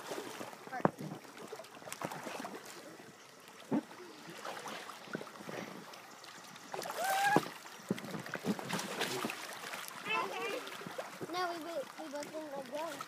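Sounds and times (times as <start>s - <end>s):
pool water sloshing and lapping: 0.0s - 13.0s
small splashes of swimmers: 0.0s - 13.0s.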